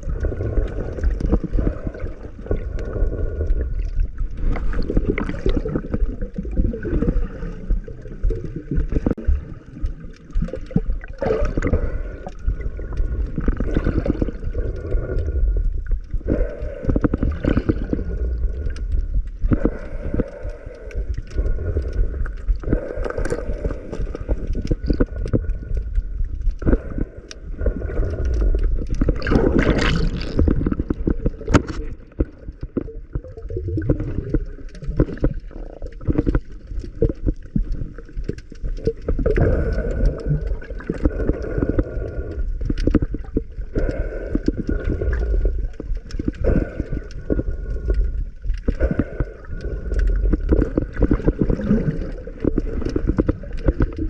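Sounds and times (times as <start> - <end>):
muffled underwater rumble: 0.0 - 54.0
water gurgling and bubbling: 0.0 - 54.0.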